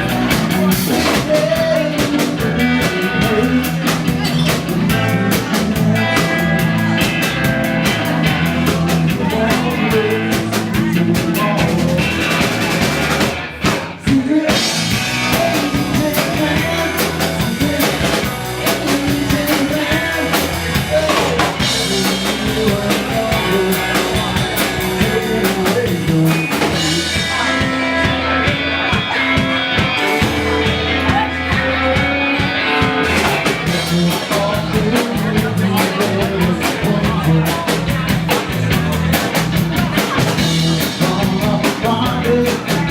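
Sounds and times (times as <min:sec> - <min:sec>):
drum kit steady beat: 0:00.0 - 0:42.9
live rock band playing: 0:00.0 - 0:42.9.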